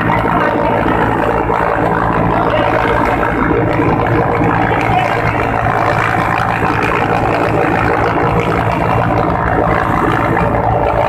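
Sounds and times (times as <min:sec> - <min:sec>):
helicopter cabin drone: 0:00.0 - 0:11.0.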